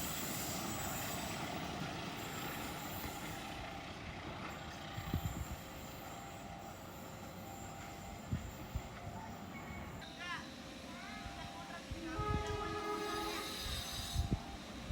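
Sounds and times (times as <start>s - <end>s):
passenger train rumbling: 0.0s - 14.9s.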